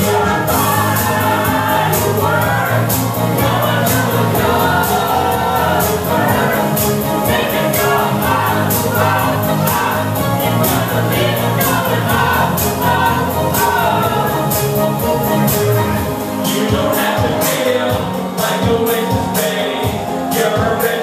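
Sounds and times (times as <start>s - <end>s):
group of voices singing: 0.0s - 21.0s
steady drum beat: 0.0s - 21.0s.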